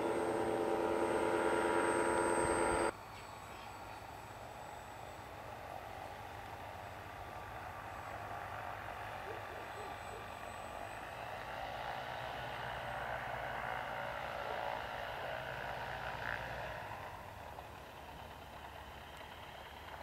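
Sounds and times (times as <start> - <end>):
model aircraft motor whirring: 0.0 - 20.0.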